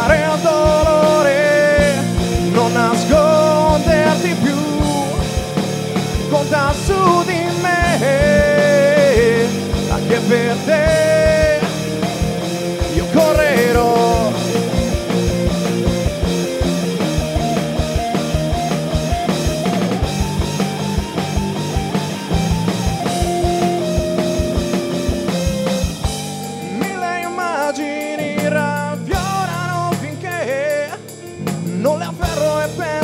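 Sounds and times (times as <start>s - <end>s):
sustained chords: 0.0s - 29.7s
lead melody with bends: 0.0s - 31.6s
bass guitar: 0.0s - 33.0s
drum kit beats: 0.0s - 33.0s.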